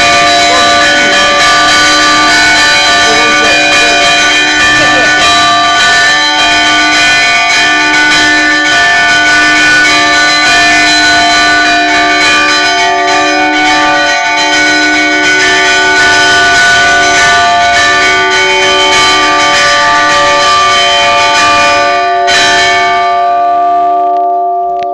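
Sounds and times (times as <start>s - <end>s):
church bells pealing: 0.0s - 24.9s.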